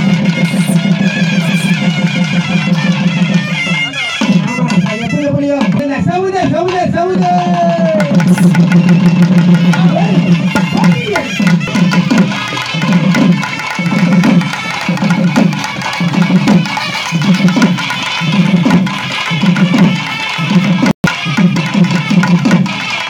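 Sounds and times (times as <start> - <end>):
wind instrument wavering melody: 0.0 - 5.8, 8.1 - 23.0
drums beating steady rhythm: 0.0 - 23.0.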